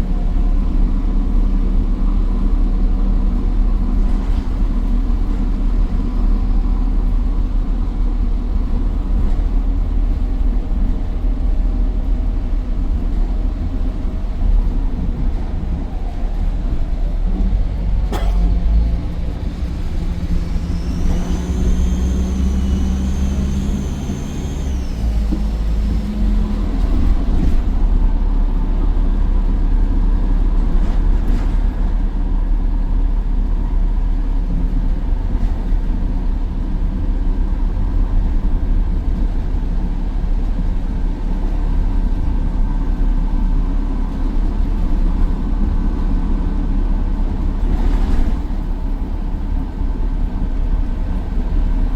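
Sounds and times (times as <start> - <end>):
bus diesel engine accelerating: 0.0 - 51.9.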